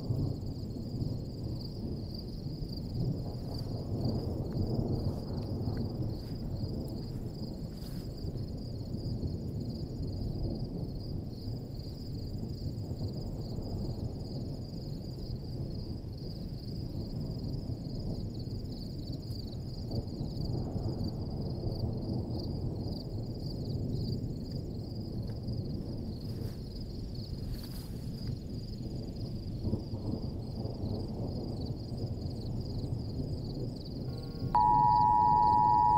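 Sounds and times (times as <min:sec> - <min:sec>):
wind blowing across microphone: 0:00.0 - 0:35.9.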